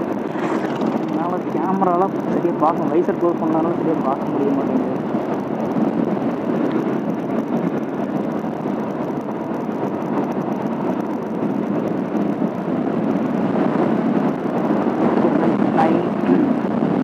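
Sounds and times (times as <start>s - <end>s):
motorcycle road noise: 0.0s - 17.0s
wind rush: 0.0s - 17.0s.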